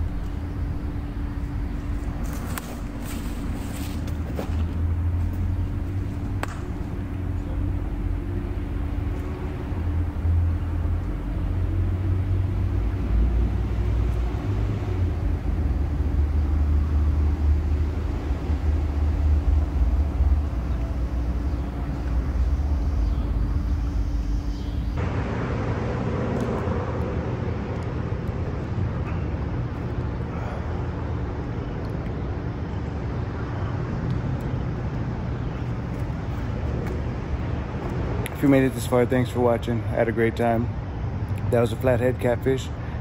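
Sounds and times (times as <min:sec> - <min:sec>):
faint steady hum: 0:00.0 - 0:43.0
traffic rumble on bridge: 0:00.0 - 0:43.0.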